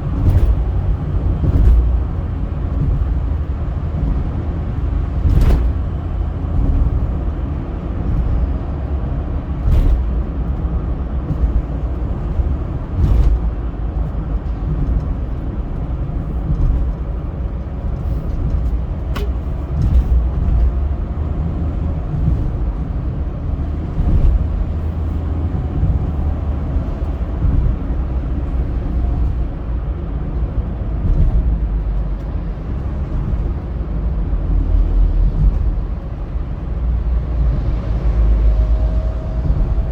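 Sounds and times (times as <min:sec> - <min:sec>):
car driving on highway: 0:00.0 - 0:39.9.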